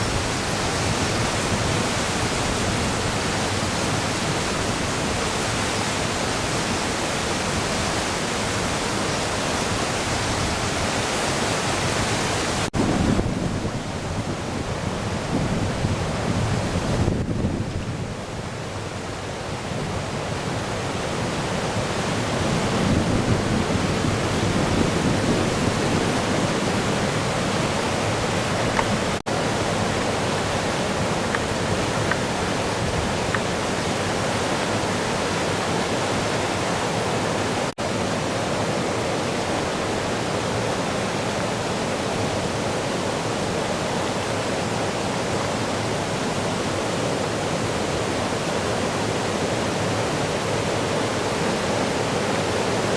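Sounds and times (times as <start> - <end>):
roar of rushing floodwater: 0.0 - 52.9.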